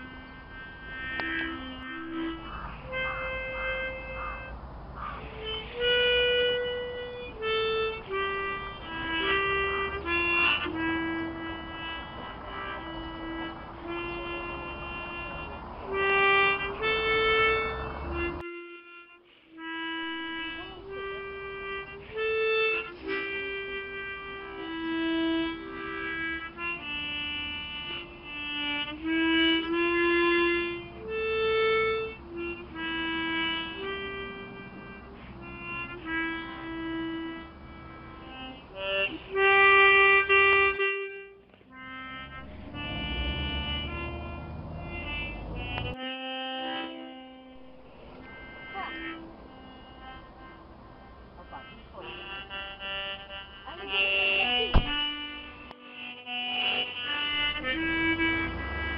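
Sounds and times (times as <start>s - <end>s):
harmonica melody: 0.0s - 58.9s.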